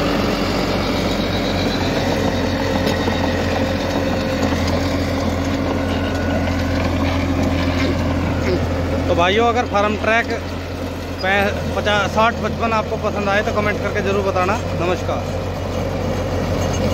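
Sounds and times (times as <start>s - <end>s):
rotavator churning soil: 0.0s - 16.9s
tractor diesel engine running: 0.0s - 16.9s.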